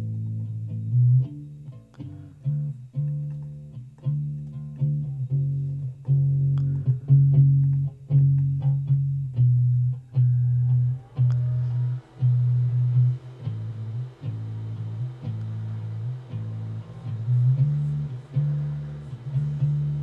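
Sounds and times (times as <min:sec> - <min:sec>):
electric bass guitar plucked notes: 0:00.0 - 0:20.0.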